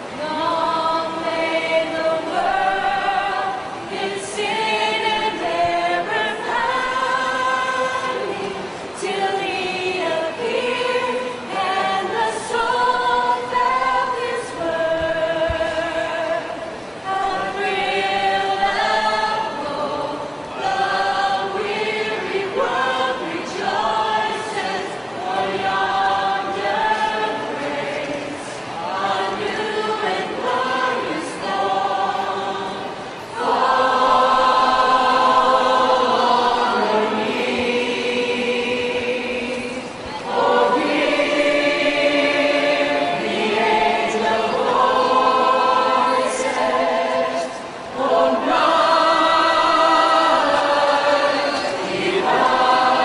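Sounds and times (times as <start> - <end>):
choir singing in parts: 0.0 - 53.0.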